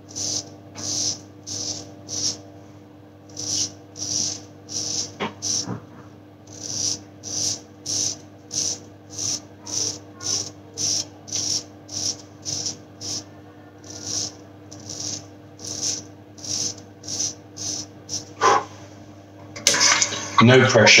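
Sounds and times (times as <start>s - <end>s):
razor scraping stubble: 0.0s - 2.4s, 3.3s - 5.8s, 6.5s - 18.7s.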